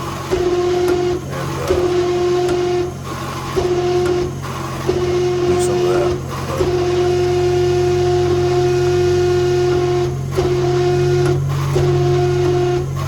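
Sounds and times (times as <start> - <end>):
hydraulic pump whine and hum: 0.0 - 13.0.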